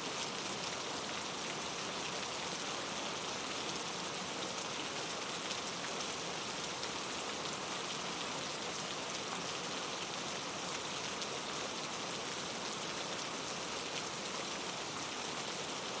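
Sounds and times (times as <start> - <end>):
rain pattering on a surface: 0.0 - 16.0.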